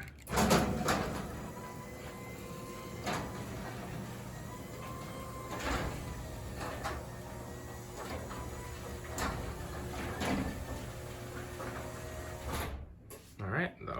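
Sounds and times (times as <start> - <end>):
garage door opener motor humming: 0.2 - 12.9.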